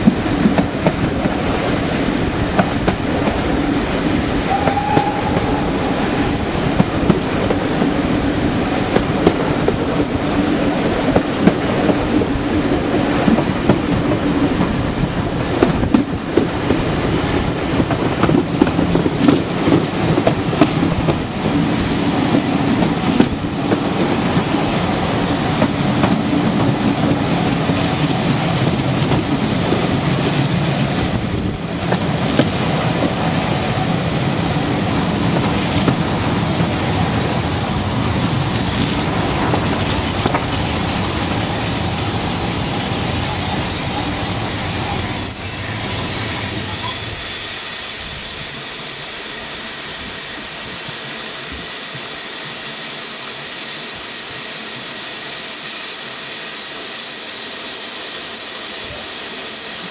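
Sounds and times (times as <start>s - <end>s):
steam hissing: 0.0s - 59.9s
train coaches rumbling on track: 0.0s - 59.9s.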